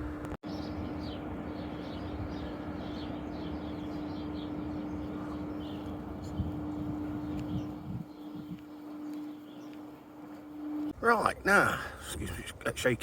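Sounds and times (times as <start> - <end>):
low hum: 0.0 - 12.7
small birds chirping: 0.4 - 11.0.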